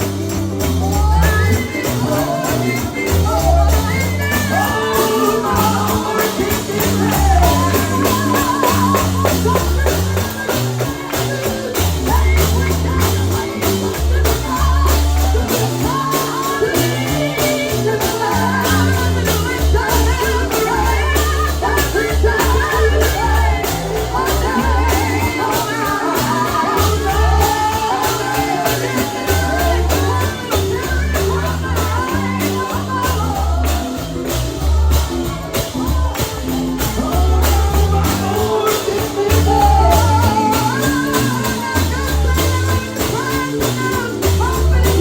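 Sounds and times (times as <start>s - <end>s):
deep bass notes: 0.0s - 45.0s
percussion steady beat: 0.0s - 45.0s
voices singing: 0.0s - 45.0s.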